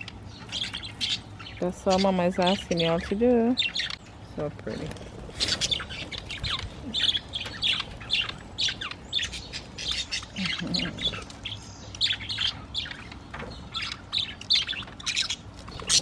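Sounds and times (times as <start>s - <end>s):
budgerigars chattering: 0.0s - 16.0s.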